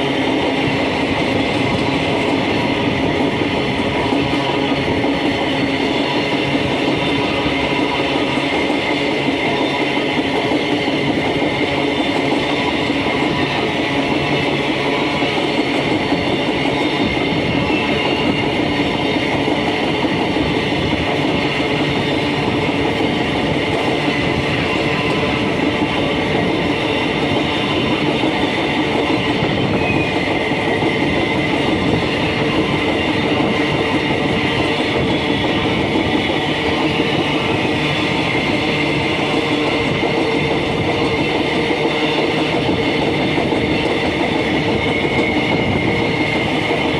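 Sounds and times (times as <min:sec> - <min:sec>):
freight train wheels clattering: 0:00.0 - 0:46.9.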